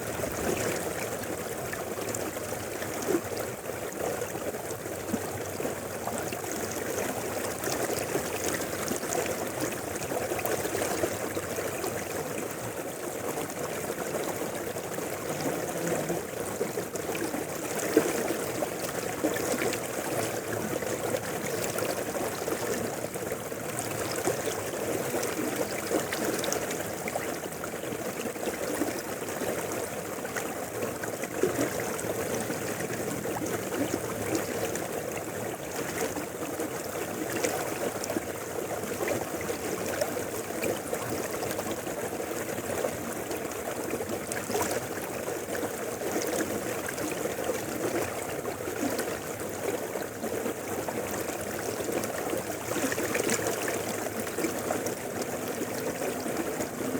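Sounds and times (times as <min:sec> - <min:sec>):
faint water splashes: 0:00.0 - 0:56.9
river flowing: 0:00.0 - 0:56.9.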